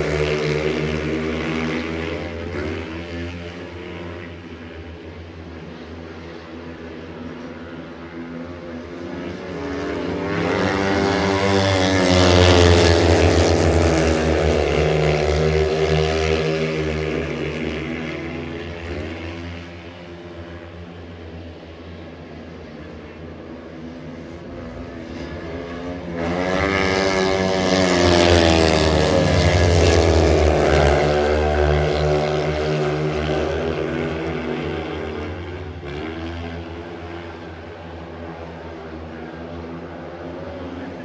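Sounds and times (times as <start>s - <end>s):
racing motorcycle engines: 0.0s - 41.0s.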